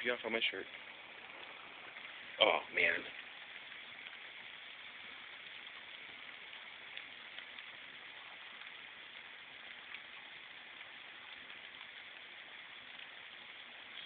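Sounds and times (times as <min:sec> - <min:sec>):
faint ticks of raindrops: 0:00.0 - 0:14.0
light rain falling: 0:00.0 - 0:14.0.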